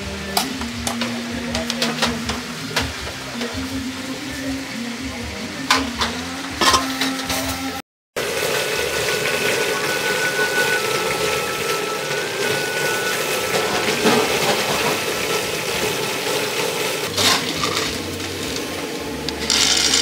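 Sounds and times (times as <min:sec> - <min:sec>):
food frying in a pan: 0:00.0 - 0:20.0.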